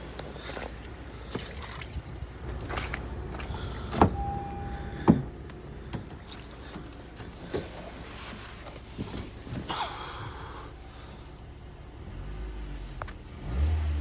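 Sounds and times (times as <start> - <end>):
car engine idling: 2.0 - 13.4.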